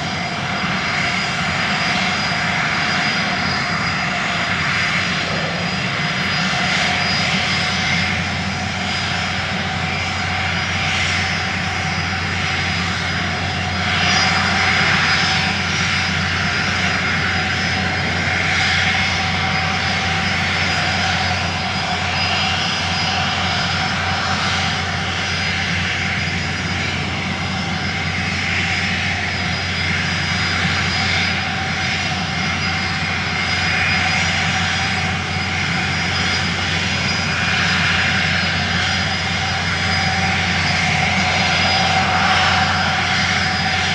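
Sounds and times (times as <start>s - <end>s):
airplane engine droning: 0.0s - 43.9s.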